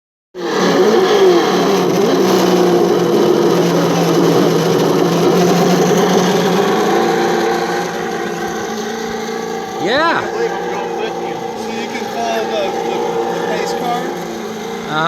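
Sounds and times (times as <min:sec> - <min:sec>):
toy truck motor running: 0:00.4 - 0:15.0.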